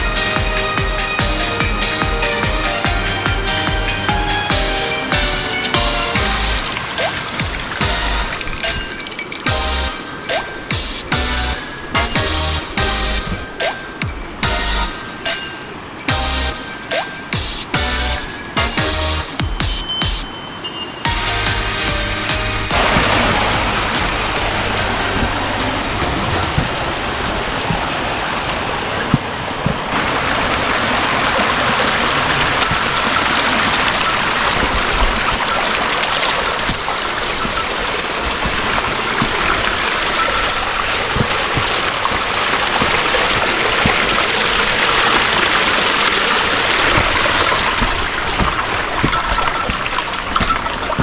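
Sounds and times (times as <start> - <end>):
stream water rushing over rocks: 0.0 - 51.0.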